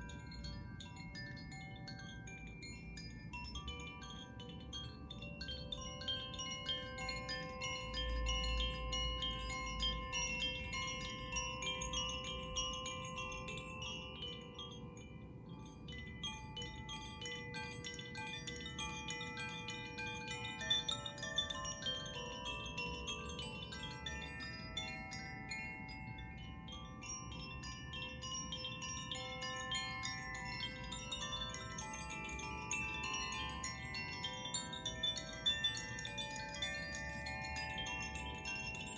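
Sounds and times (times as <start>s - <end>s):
chimes tinkling and ringing: 0.0s - 38.9s.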